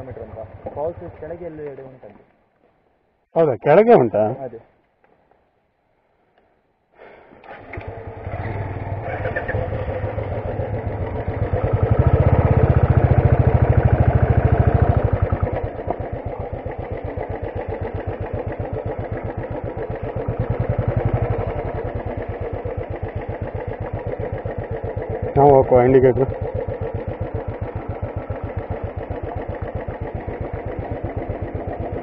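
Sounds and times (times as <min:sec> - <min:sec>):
motorcycle engine running: 0:00.0 - 0:02.1, 0:07.5 - 0:32.0.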